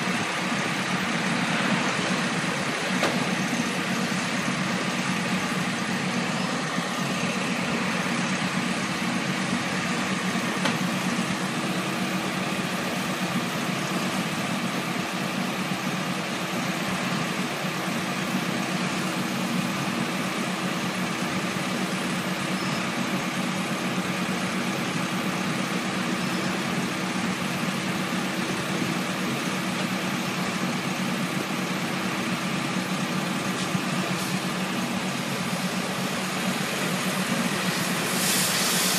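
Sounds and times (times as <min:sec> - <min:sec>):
combine harvester droning: 0:00.0 - 0:38.9.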